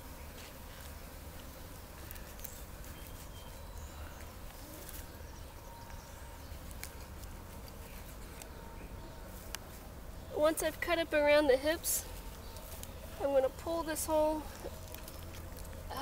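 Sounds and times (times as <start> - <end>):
flies buzzing: 0.0 - 16.0.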